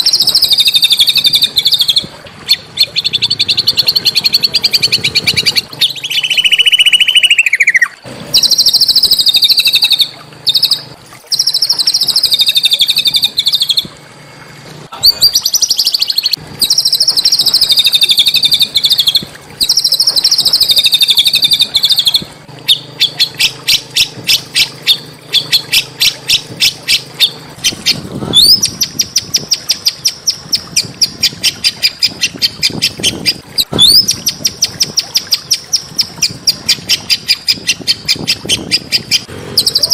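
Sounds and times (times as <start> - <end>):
songbird singing rapid trills: 0.0 - 13.9, 15.0 - 39.9.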